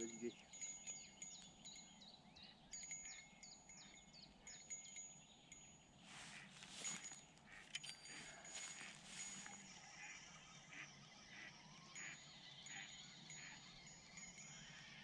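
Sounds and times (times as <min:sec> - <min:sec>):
birds chirping: 0:00.0 - 0:15.0
small bell jingling: 0:00.0 - 0:15.0.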